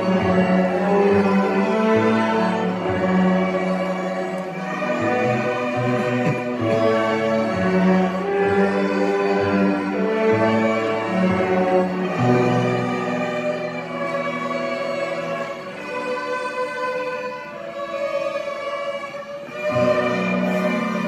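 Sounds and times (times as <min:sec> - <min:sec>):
low cello notes: 0:00.0 - 0:21.0
string orchestra playing: 0:00.0 - 0:21.0.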